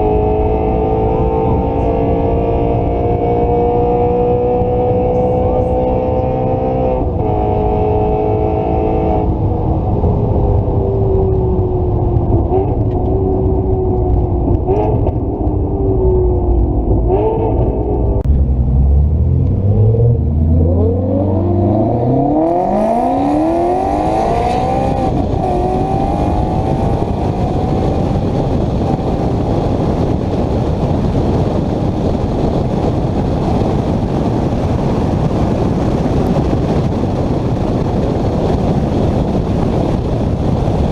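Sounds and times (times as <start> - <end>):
car engine revving: 0.0 - 40.9
wind and road noise: 0.0 - 40.9.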